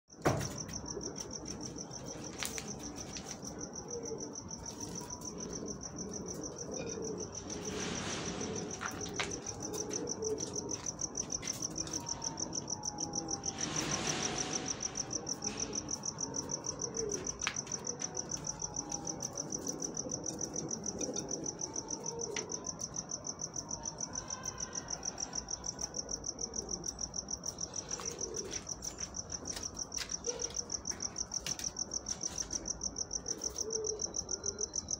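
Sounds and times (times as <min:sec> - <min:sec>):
insect chirping: 0:00.2 - 0:34.9
pigeons cooing: 0:00.3 - 0:34.9.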